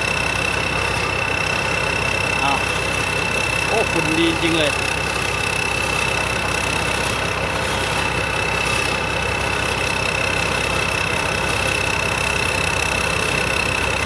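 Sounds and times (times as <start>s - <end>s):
combine harvester engine idling: 0.0s - 14.0s
steady high whine: 0.0s - 14.0s.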